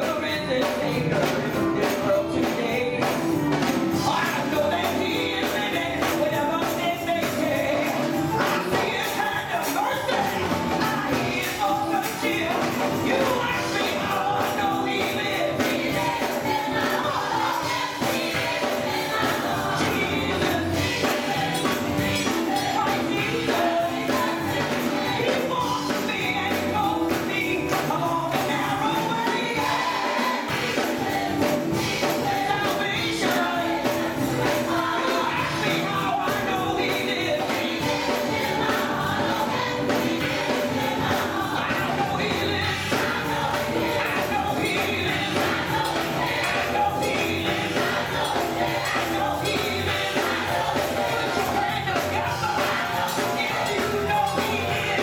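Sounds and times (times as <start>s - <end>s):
gospel choir singing: 0.0s - 55.0s
lead vocalist singing: 0.0s - 55.0s.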